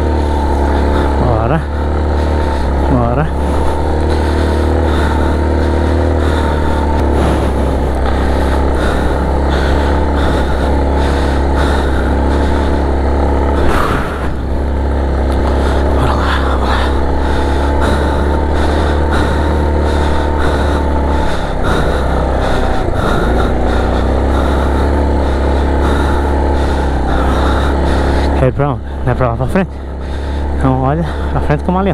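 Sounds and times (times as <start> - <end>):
motorcycle engine rumbling: 0.0 - 31.9.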